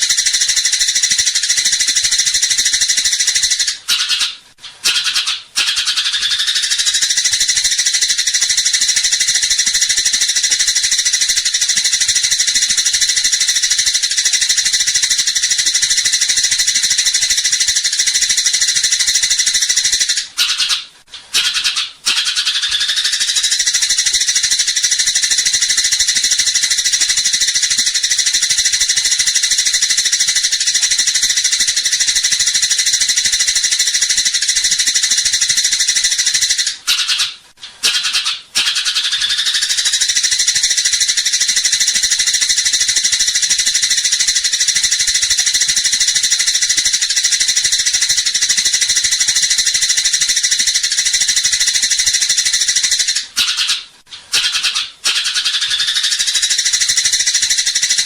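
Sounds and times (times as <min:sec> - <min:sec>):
sparrows chattering: 0:00.0 - 0:58.0.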